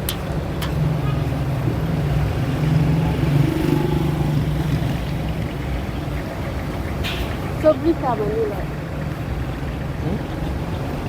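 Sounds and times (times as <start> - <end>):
road and street noise: 0.0 - 11.0
vehicle engine droning: 0.0 - 11.0.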